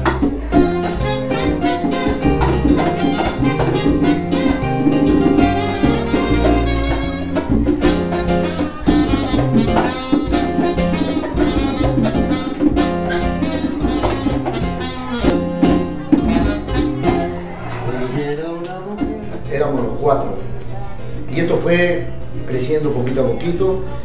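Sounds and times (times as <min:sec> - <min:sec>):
salsa band playing: 0:00.0 - 0:24.0.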